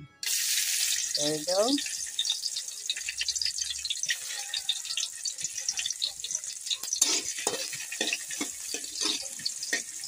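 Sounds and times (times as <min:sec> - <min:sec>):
garlic sizzling in hot oil: 0:00.2 - 0:10.0.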